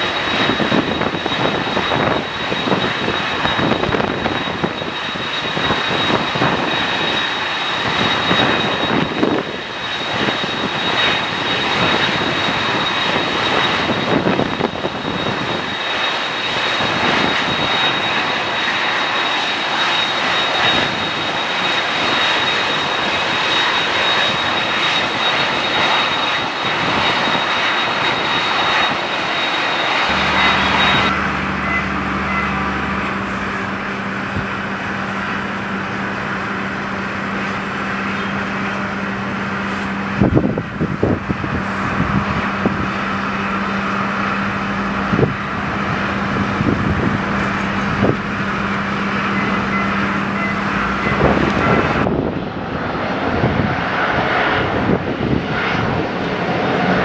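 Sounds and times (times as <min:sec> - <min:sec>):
airliner engines running: 0:00.0 - 0:57.0
high-pitched engine whine: 0:00.0 - 0:57.0.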